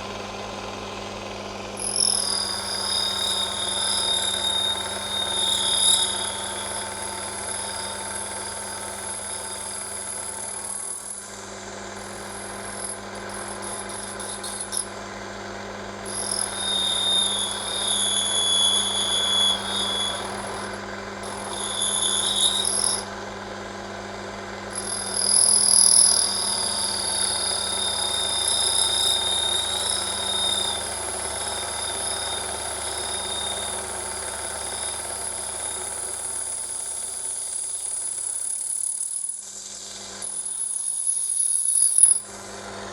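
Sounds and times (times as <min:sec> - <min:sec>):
lathe motor hum: 0:00.0 - 0:39.9
brass screaming under cutting tool: 0:01.8 - 0:11.3, 0:12.0 - 0:15.0, 0:16.0 - 0:23.1, 0:24.7 - 0:42.3.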